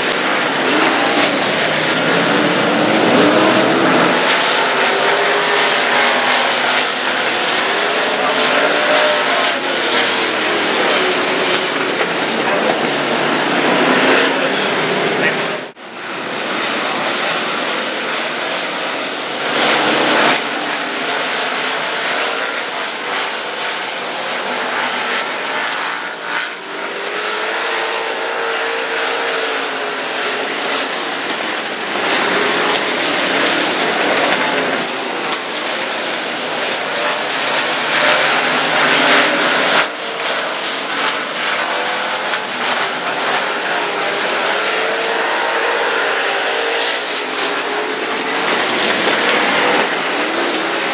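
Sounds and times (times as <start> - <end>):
race car engines: 0.0 - 50.9.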